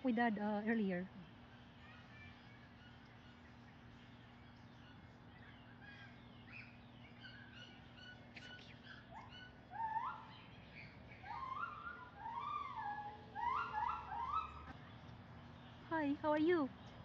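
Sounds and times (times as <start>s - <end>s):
birds chirping and calling: 0.0s - 17.0s
faint low hum: 0.0s - 17.0s.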